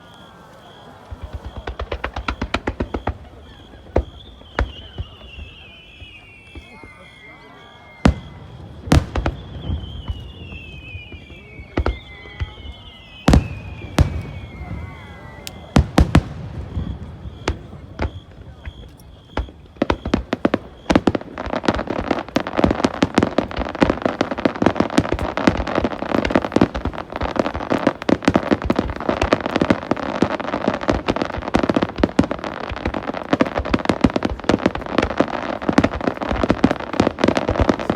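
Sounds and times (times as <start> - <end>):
descending firework whistle: 0.0 - 37.9
fireworks bursting: 0.0 - 37.9.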